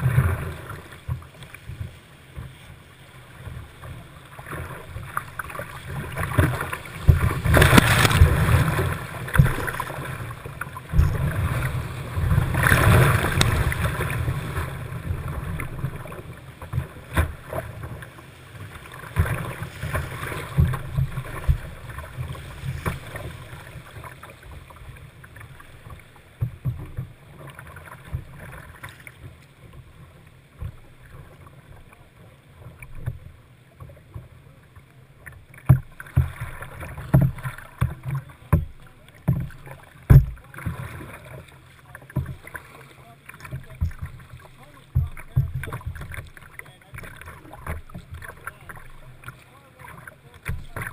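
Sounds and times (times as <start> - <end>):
whitewater rushing and splashing: 0.0 - 29.3, 35.2 - 50.9
paddle strokes splashing: 0.0 - 50.9.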